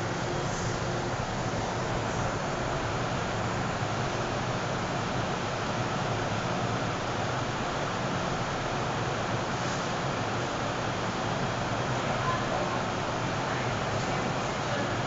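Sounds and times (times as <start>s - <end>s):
train cabin ventilation rushing: 0.0s - 15.0s.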